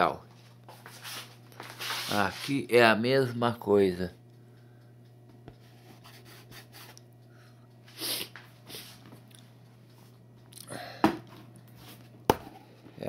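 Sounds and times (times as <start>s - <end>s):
air fryer humming: 0.0s - 13.0s.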